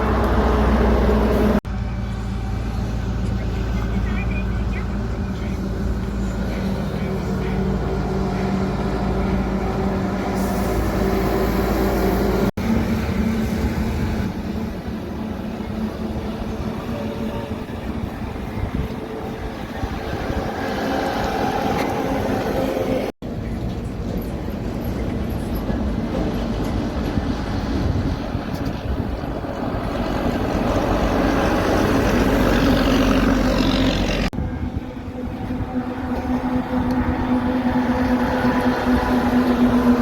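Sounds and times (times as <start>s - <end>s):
trucks driving past: 0.0s - 40.0s.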